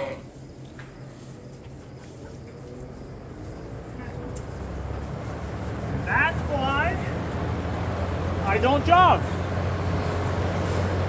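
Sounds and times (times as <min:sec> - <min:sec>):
ventilation fan humming: 0:00.0 - 0:11.0.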